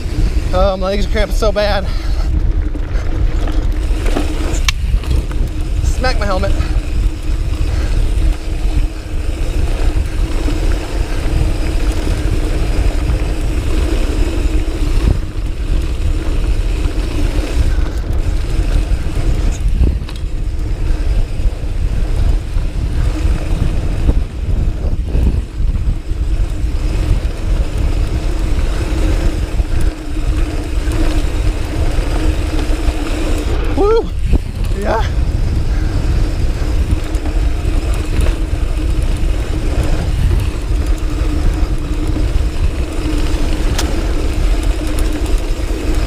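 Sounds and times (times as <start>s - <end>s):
bike tyres rolling on dirt: 0.0s - 46.0s
wind buffeting microphone: 0.0s - 46.0s.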